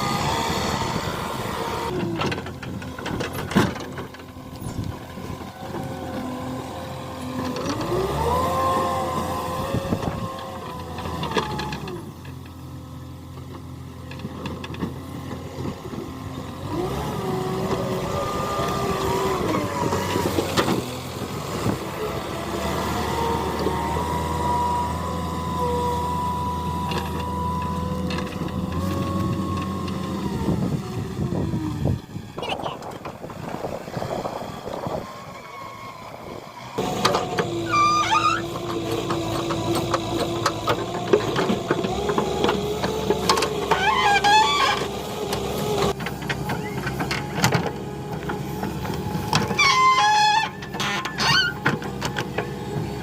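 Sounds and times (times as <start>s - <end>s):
diesel engine revving under load: 0.0s - 53.0s.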